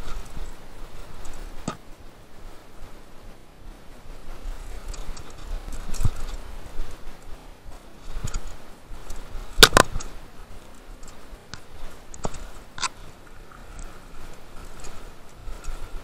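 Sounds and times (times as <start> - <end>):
mountain bike clicking and rattling: 0.0 - 2.1, 4.0 - 16.0.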